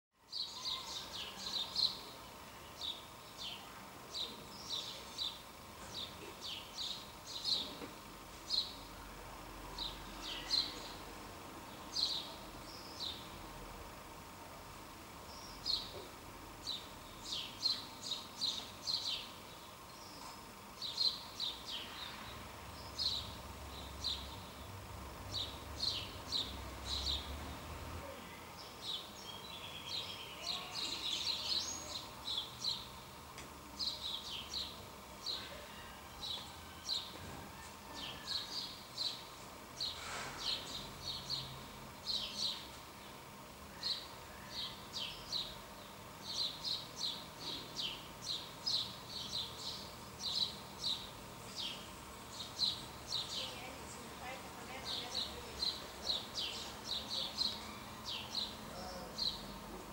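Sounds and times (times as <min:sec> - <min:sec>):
small birds chirping: 0:00.2 - 0:59.9.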